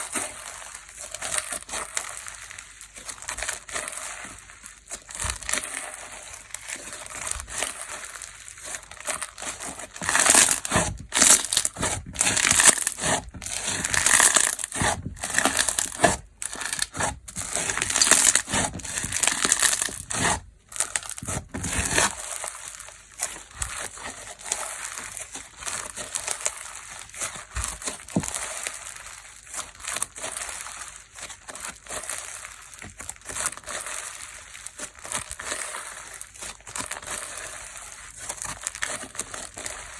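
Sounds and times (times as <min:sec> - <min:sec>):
slime crackling and crunching: 0:00.0 - 0:39.9.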